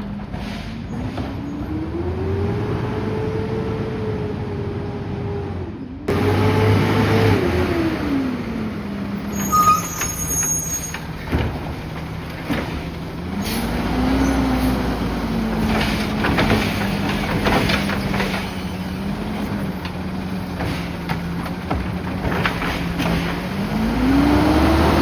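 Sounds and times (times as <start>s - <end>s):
truck engine revving: 1.0s - 25.0s.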